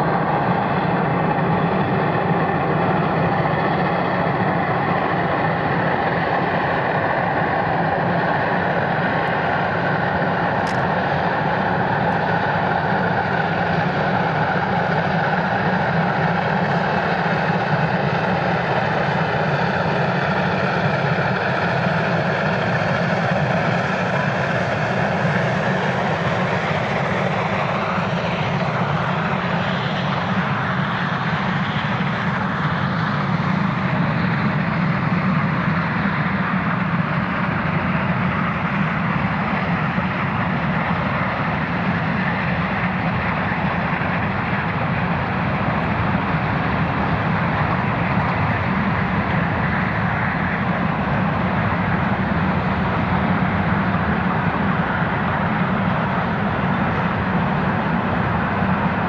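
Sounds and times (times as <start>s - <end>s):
steam locomotive exhaust roar: 0.0s - 59.0s.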